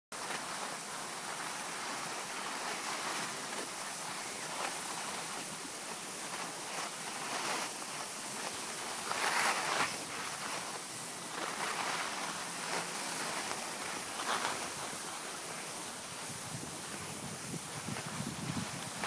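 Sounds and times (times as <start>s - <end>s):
skis sliding over snow: 0.2s - 19.0s.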